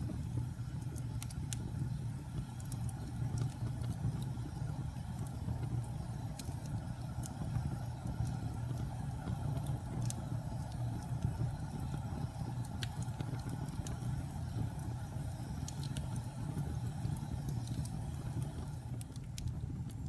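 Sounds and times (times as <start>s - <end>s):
fire crackles: 0.0s - 20.0s
fire rumbling: 0.0s - 20.0s.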